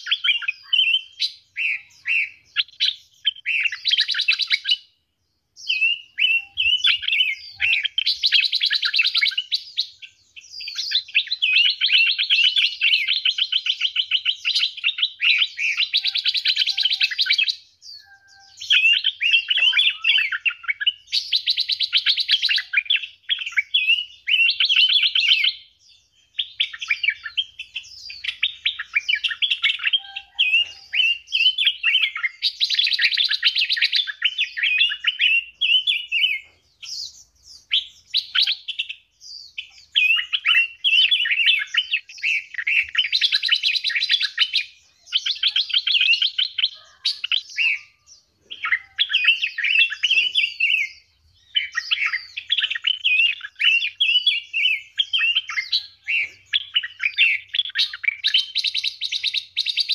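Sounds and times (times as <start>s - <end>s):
songbirds trilling and warbling: 0.0s - 59.9s.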